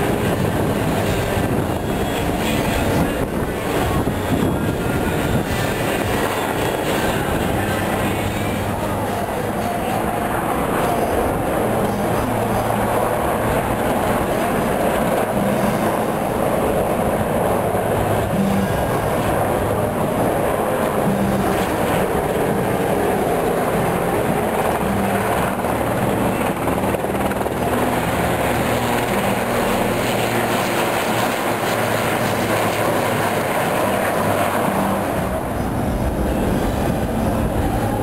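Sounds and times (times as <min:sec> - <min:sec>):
helicopter flying over: 0:00.0 - 0:38.0.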